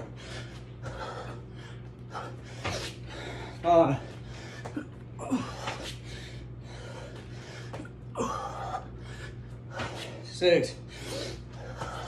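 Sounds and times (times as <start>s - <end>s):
man breathing hard and gasping: 0.0s - 12.0s.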